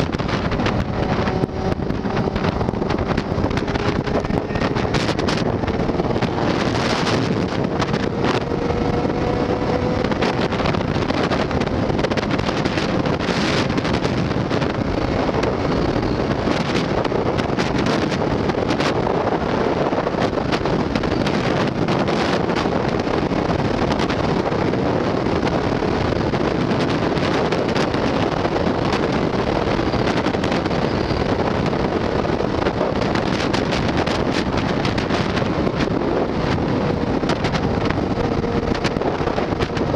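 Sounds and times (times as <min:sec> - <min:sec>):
faint hum rising in pitch: 0:00.0 - 0:32.9
motorcycle engine: 0:00.0 - 0:39.9
road noise: 0:00.0 - 0:39.9
wind rushing over microphone: 0:00.0 - 0:39.9.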